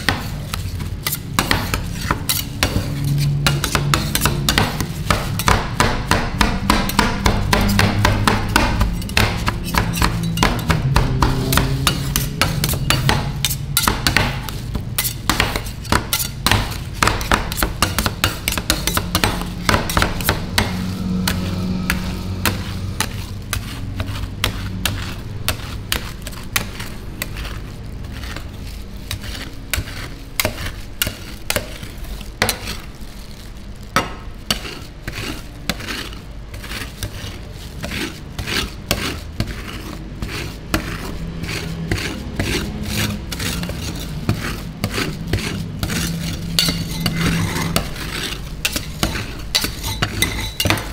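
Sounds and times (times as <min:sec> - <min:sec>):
metal spatulas scraping steel plate: 0:00.0 - 0:32.9, 0:34.5 - 0:50.9.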